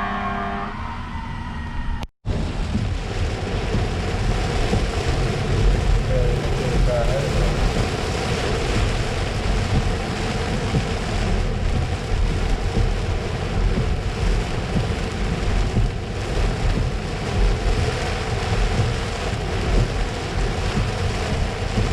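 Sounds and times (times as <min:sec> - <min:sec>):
road vehicles rumbling: 0:00.0 - 0:21.9.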